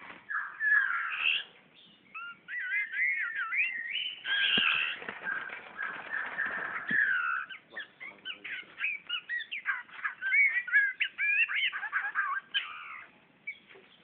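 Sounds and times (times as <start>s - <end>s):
songbird singing: 0.2s - 14.0s.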